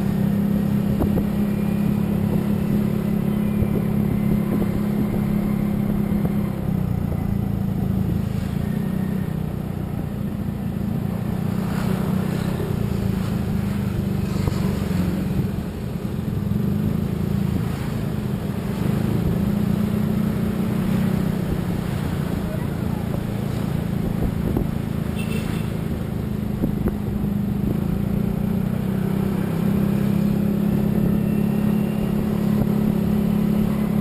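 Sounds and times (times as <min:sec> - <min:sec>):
road noise: 0:00.0 - 0:34.0
vehicle engine drone: 0:00.0 - 0:34.0.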